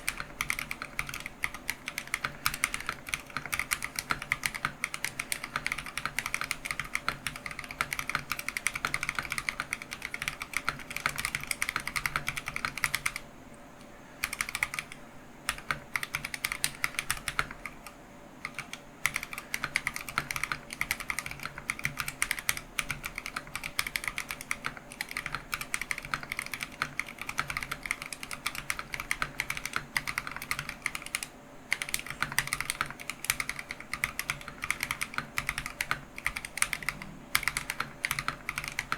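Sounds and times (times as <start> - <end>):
mechanical keyboard typing: 0.0 - 13.2, 14.2 - 38.9.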